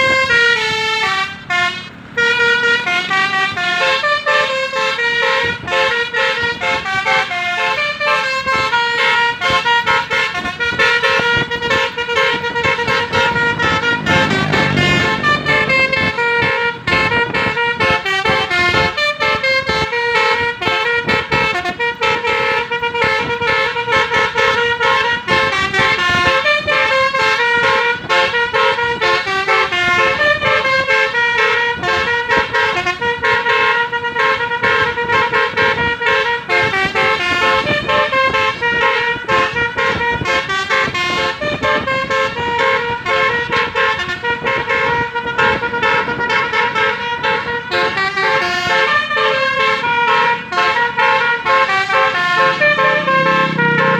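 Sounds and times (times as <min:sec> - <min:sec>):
musical bus horn melody: 0:00.0 - 0:53.9.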